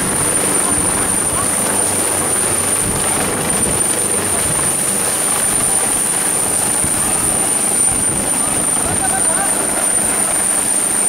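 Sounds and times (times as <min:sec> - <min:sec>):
helicopter rotor chopping roar: 0:00.0 - 0:11.0
turbine high whine: 0:00.0 - 0:11.0.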